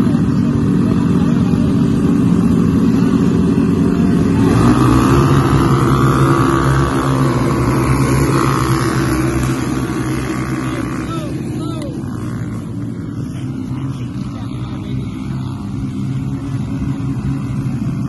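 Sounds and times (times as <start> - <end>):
buggy engines revving: 0.0 - 18.0.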